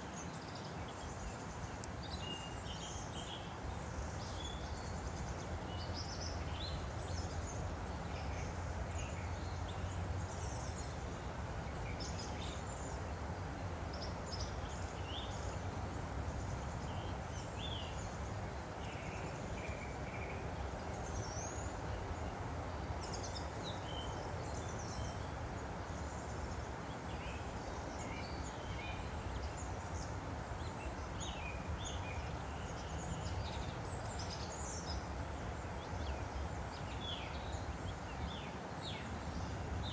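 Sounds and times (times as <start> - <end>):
songbirds chirping and trilling: 0.0 - 39.9
stream flowing: 0.0 - 39.9.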